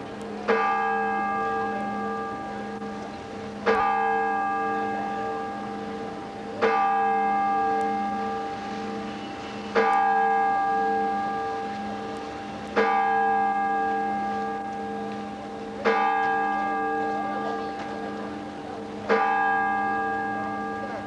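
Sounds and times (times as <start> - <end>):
church bell tolling: 0.0 - 21.0.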